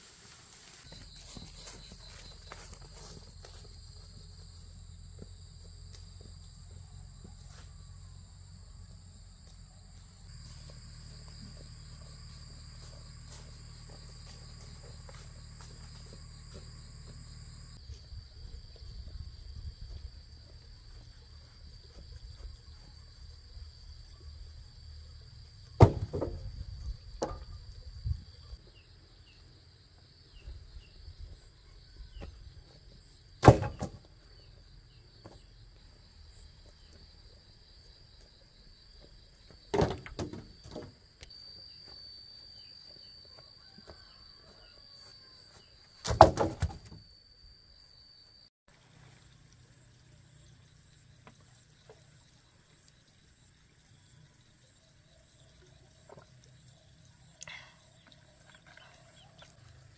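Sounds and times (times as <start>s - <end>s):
insects calling: 0.0s - 59.9s.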